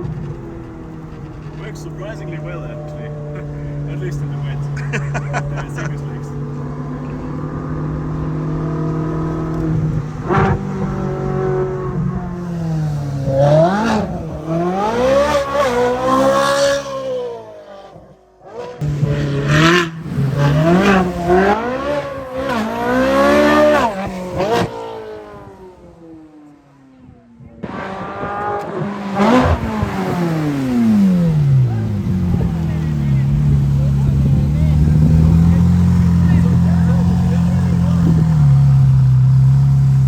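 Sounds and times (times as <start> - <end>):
sports car engine revving: 0.0 - 40.0.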